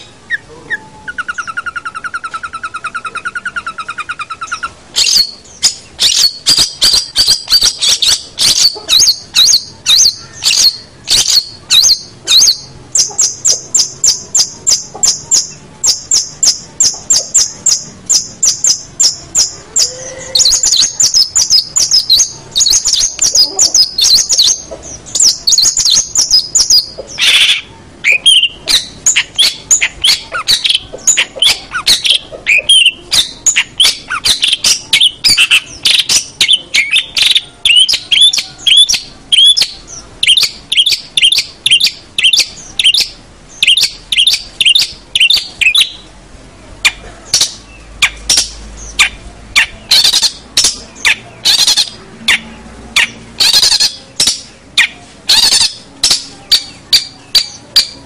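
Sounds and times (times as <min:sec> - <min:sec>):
bird chattering song: 0:00.0 - 0:46.2, 0:46.8 - 0:58.0.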